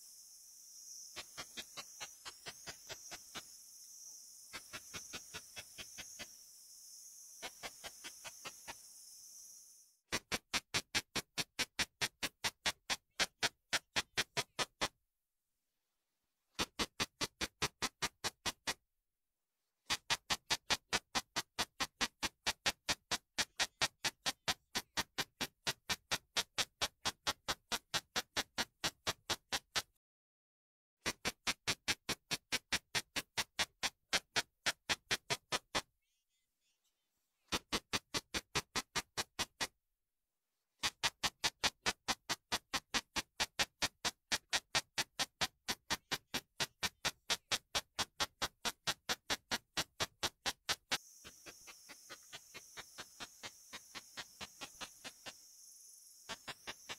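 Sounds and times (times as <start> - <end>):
katydid song as fast ticks: 0.0 - 14.9, 16.6 - 18.8, 19.9 - 29.9, 31.1 - 35.9, 37.5 - 39.7, 40.8 - 56.9.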